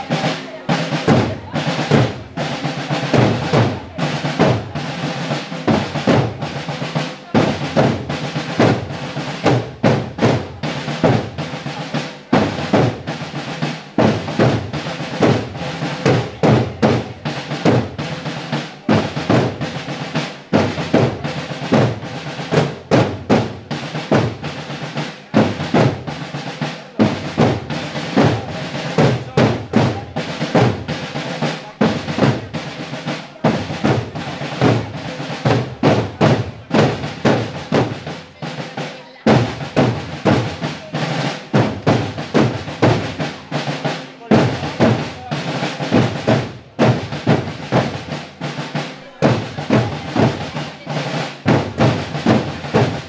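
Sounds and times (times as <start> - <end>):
marching drums cadence: 0.0 - 53.0.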